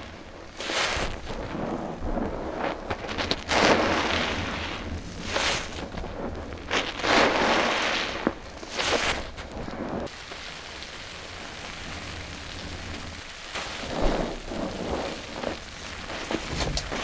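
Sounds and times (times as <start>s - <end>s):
watery hiss: 0.0s - 17.0s
wet sponge squishing: 0.6s - 10.1s, 11.6s - 17.0s.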